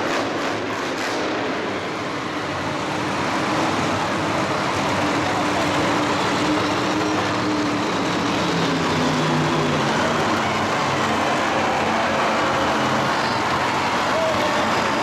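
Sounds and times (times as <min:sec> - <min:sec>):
loud vehicle engine running: 0:00.0 - 0:15.0.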